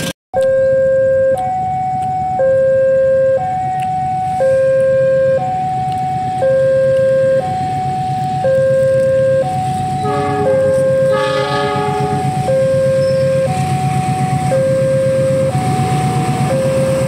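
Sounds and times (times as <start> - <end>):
two-tone electronic alarm: 0.4 - 17.0.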